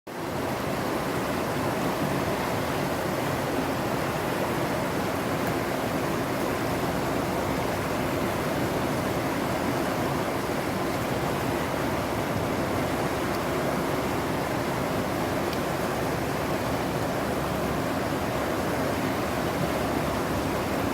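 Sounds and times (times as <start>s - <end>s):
rushing water: 0.1s - 20.9s.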